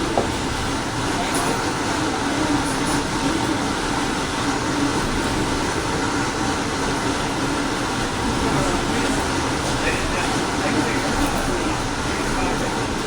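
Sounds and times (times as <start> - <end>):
passenger train hiss and hum: 0.0 - 13.0.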